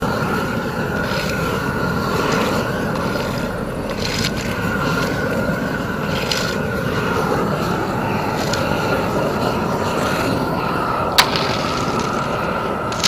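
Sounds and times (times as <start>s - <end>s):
constant machine whine: 0.0s - 13.0s
paving machine engine rumble: 0.0s - 13.0s.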